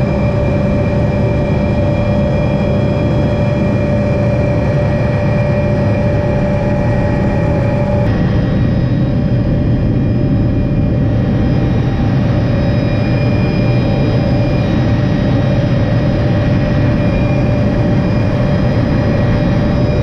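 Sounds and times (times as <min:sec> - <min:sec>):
helicopter drone: 0:00.0 - 0:20.0
helicopter whine: 0:00.0 - 0:20.0.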